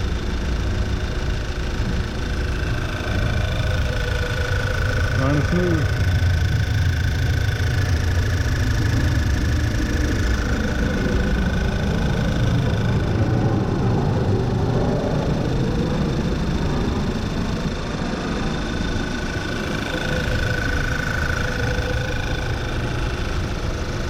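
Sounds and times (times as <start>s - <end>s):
car engine idling: 0.0s - 24.0s
steady high tone: 0.0s - 24.0s.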